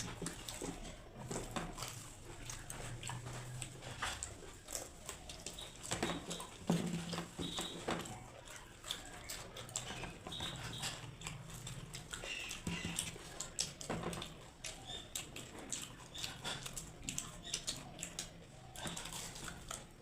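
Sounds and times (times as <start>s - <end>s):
people chewing and crunching: 0.0s - 20.0s.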